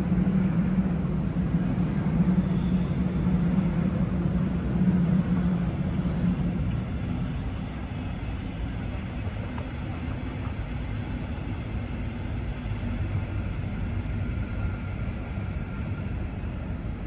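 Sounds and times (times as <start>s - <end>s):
background traffic noise: 0.0s - 17.0s
passing motor vehicle rumble: 0.0s - 17.0s.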